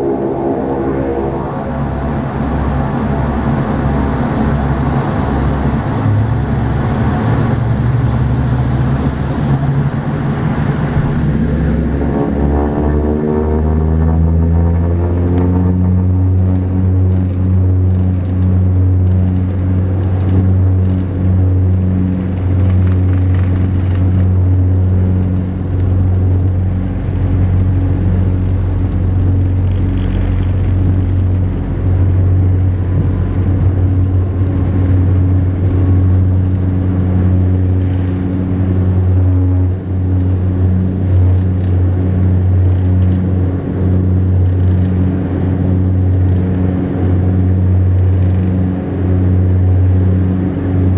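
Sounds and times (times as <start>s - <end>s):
propeller airliner cabin drone: 0.0s - 50.9s.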